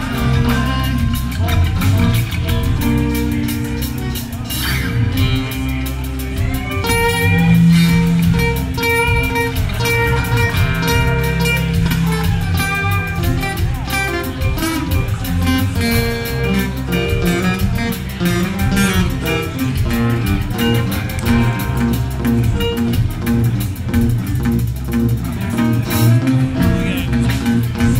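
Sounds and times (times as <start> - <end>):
acoustic guitars strumming: 0.0 - 27.9.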